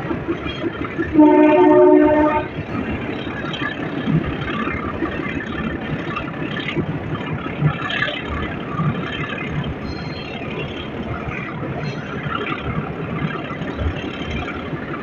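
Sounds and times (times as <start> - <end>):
train wheels rattling on track: 0.0 - 15.0.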